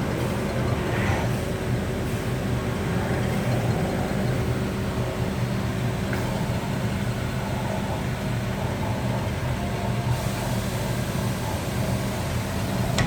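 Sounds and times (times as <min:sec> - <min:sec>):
machining centre humming: 0:00.0 - 0:13.0.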